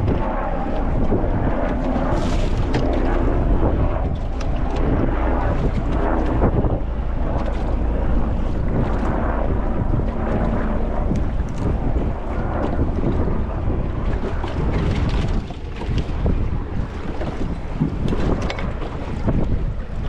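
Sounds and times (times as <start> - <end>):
boat rumble: 0.0 - 20.0
wind buffeting microphone: 0.0 - 20.0.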